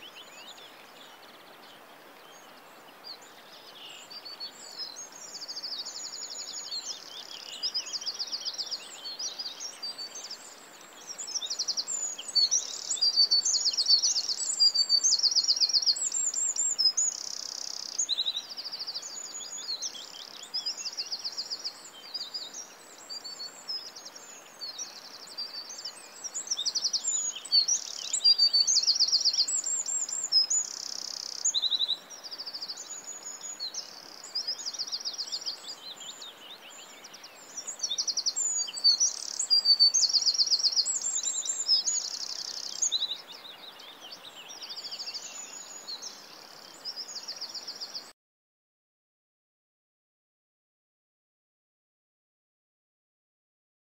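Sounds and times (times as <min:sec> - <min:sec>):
birds chirping and trilling: 0:00.0 - 0:48.1
faint background noise: 0:00.0 - 0:48.1.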